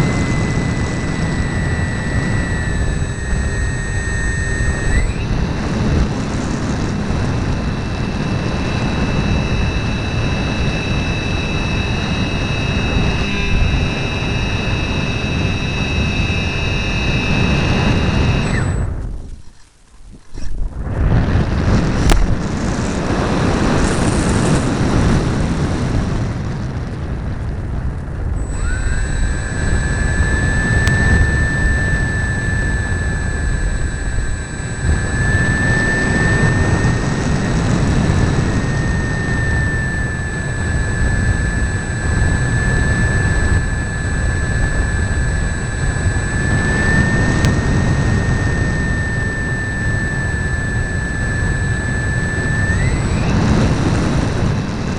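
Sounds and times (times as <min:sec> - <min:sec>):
high motor whine: 0:00.0 - 0:54.9
wind rush over model plane: 0:00.0 - 0:54.9.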